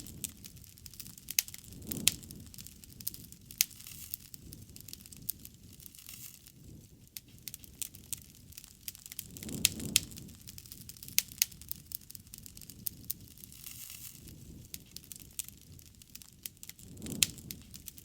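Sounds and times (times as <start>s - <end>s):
low rush of burning: 0.0s - 18.0s
wood fire crackling and popping: 0.0s - 18.0s.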